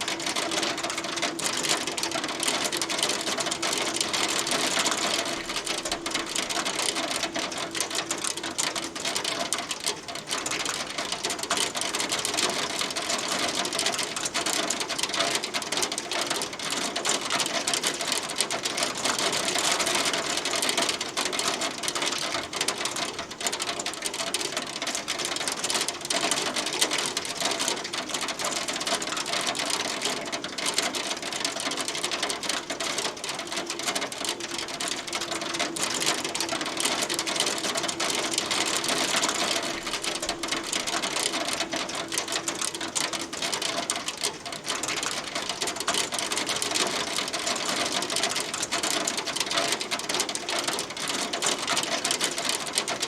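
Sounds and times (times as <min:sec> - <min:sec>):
hail on hard surface: 0:00.0 - 0:53.0.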